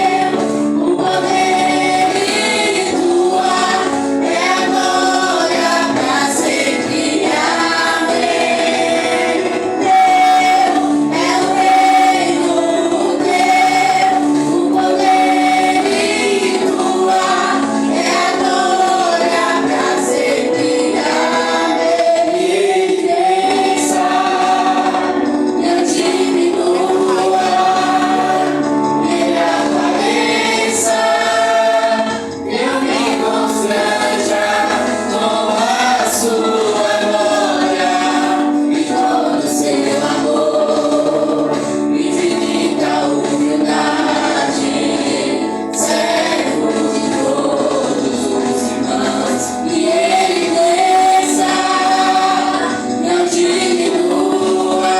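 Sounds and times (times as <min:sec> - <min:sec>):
choir singing worship song: 0:00.0 - 0:54.9
musical accompaniment: 0:00.0 - 0:54.9.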